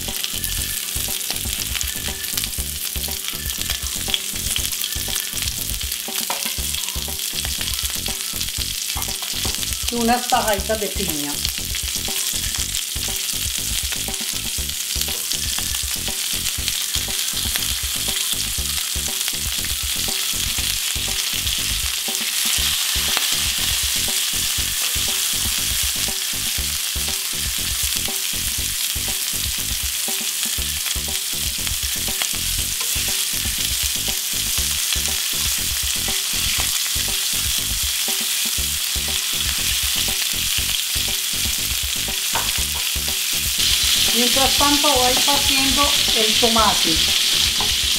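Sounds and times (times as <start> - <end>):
food sizzling in grill pan: 0.0 - 47.9.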